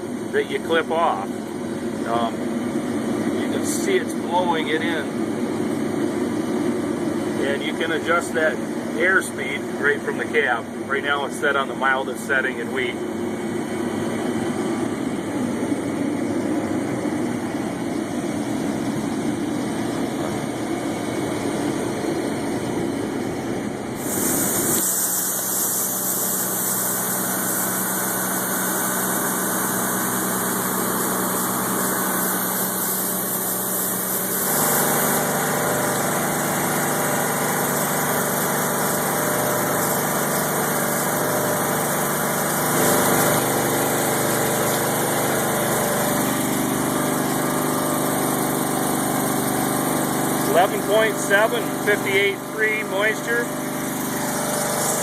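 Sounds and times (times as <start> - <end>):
combine harvester engine droning: 0.0 - 38.0, 42.5 - 55.0.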